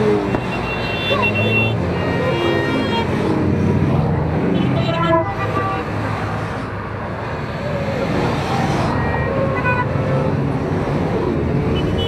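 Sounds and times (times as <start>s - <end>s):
many motorcycle engines revving: 0.0s - 12.0s.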